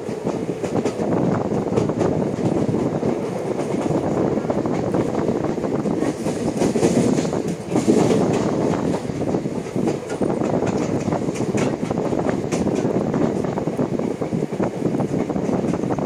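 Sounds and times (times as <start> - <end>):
wheels clicking over rail joints: 0.0 - 13.5
train wheels rumbling on rails: 0.0 - 16.0.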